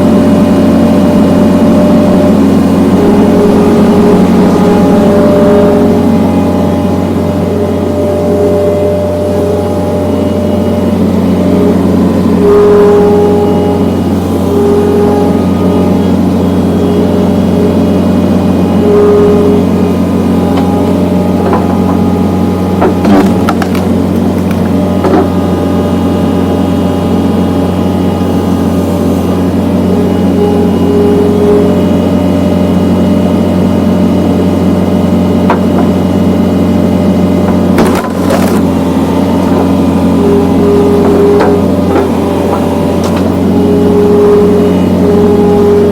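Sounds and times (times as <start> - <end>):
diesel engine running: 0.0 - 45.9
higher tone over engine: 0.0 - 45.9.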